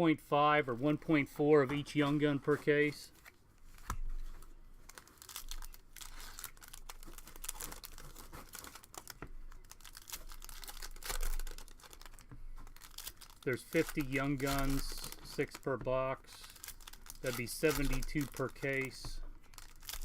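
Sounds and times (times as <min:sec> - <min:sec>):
plastic packaging crinkling and tearing: 0:03.2 - 0:20.0.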